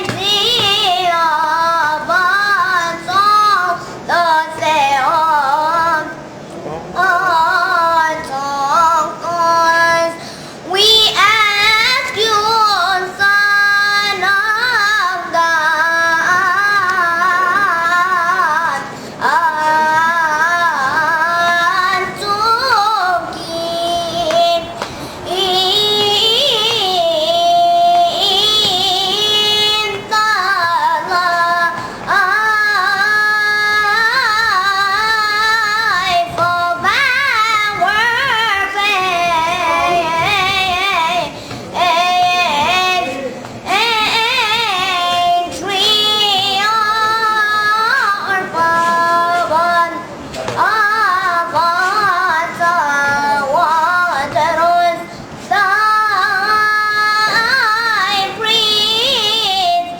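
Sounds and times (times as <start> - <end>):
child singing: 0.0 - 6.2, 7.0 - 59.9.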